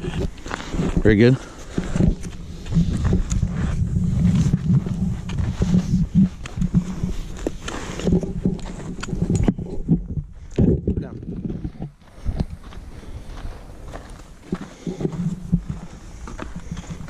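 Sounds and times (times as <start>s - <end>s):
footsteps on icy snow: 0.0s - 9.3s, 12.1s - 17.0s
low rumbling: 0.0s - 17.0s.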